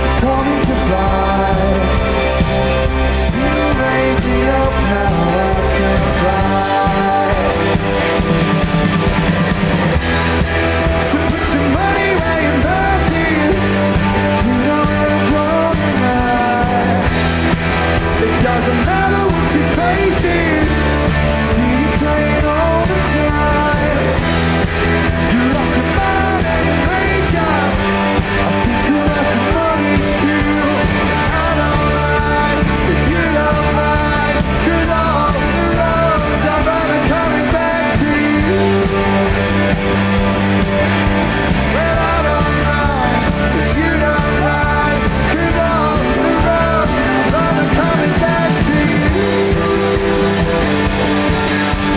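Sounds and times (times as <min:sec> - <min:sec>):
rock band playing live: 0:00.0 - 0:51.9.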